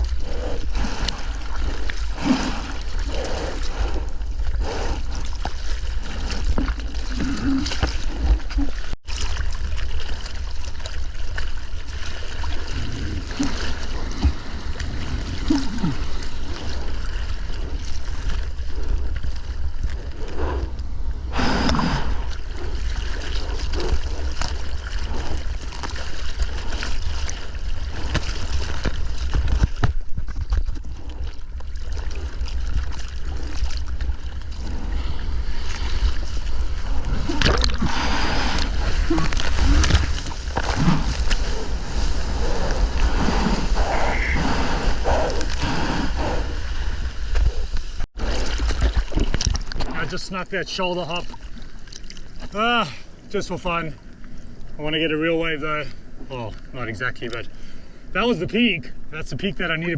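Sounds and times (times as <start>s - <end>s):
low rumble: 0.0s - 49.9s
seawater splashing: 0.0s - 55.4s.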